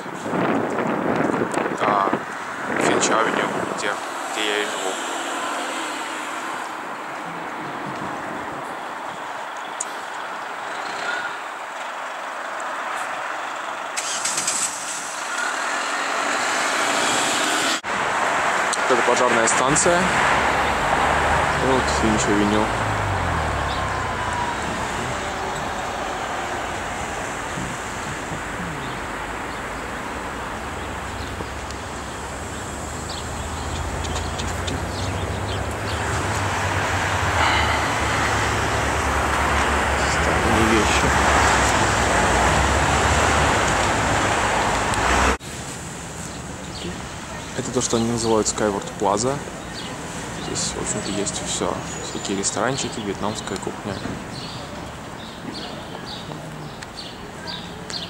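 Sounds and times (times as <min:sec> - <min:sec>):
road traffic passing: 0:00.0 - 0:58.0
vehicle engine hum: 0:00.0 - 0:58.0.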